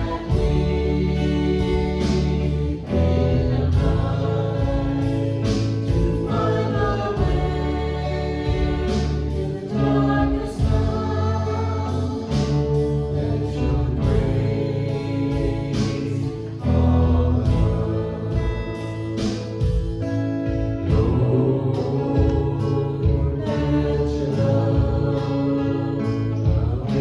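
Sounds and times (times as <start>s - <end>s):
band with bass and beat: 0.0s - 27.0s
voices singing worship song: 0.0s - 27.0s.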